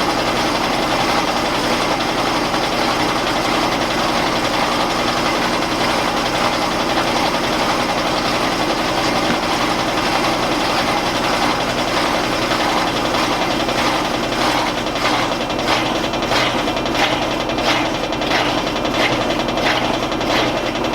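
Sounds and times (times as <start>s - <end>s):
washing machine spinning: 0.0s - 20.9s.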